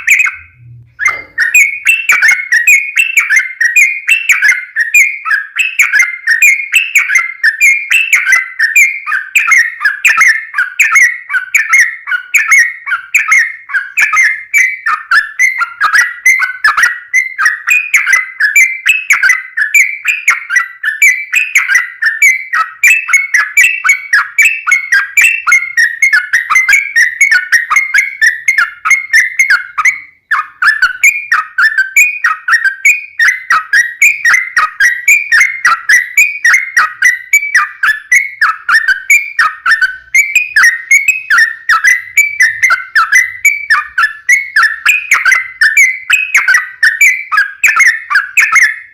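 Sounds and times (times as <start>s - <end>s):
bulbul singing whistled notes: 0.0s - 48.9s.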